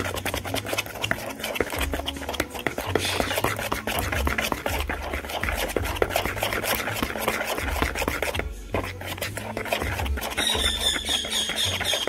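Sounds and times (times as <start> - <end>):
utensil scraping a bowl: 0.0 - 12.0.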